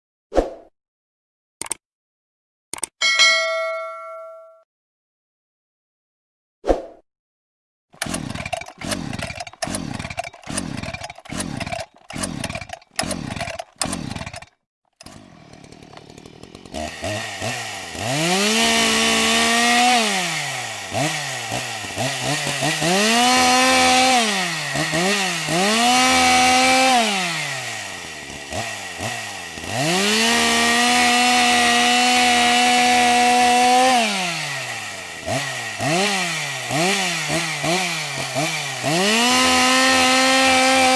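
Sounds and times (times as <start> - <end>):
chainsaw cord pulls: 8.0 - 40.9
chainsaw engine idling and revving: 8.0 - 40.9.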